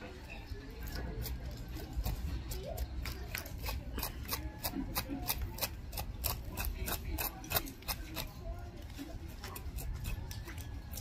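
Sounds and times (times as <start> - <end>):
knife scraping fish scales: 0.8 - 11.0.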